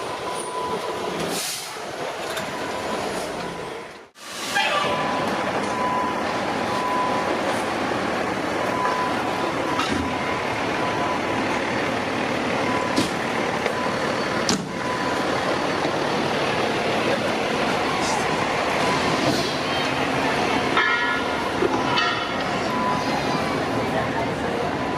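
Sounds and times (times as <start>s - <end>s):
truck engine and road noise: 0.0s - 24.9s.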